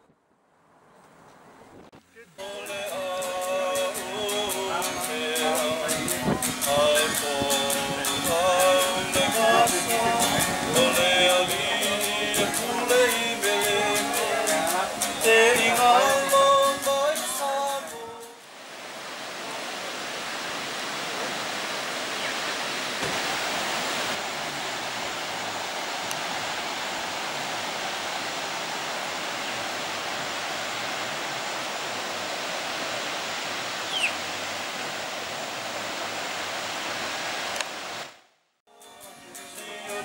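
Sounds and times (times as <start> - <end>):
waterfall roaring: 2.2 - 38.2.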